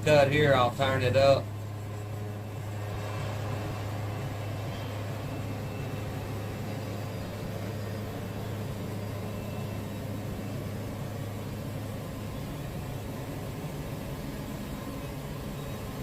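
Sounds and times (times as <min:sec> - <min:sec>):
sawmill engine drone: 0:00.0 - 0:16.0.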